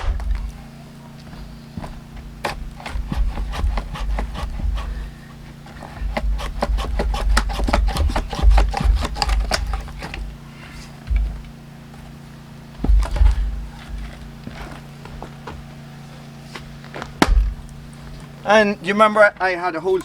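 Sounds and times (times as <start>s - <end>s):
dull low thumps: 0.0s - 15.8s, 17.0s - 18.4s
wood log cracking apart: 0.0s - 15.9s, 16.7s - 18.5s.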